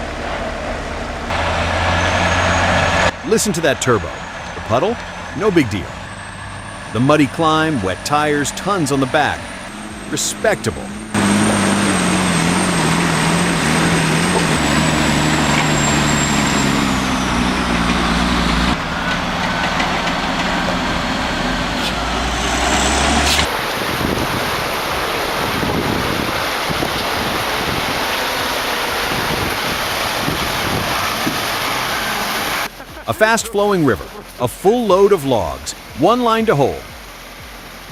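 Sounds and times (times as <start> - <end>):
diesel truck engine labouring: 0.0 - 37.9
high turbo whistle: 0.0 - 37.9
rising whine: 0.0 - 37.9
rough rushing noise: 0.0 - 37.9.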